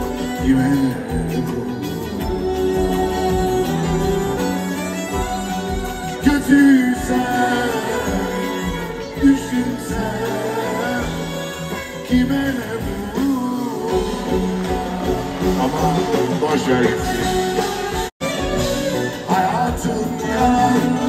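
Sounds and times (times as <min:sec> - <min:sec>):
man singing: 0:00.0 - 0:04.9, 0:06.0 - 0:21.0
live band playing: 0:00.0 - 0:21.0.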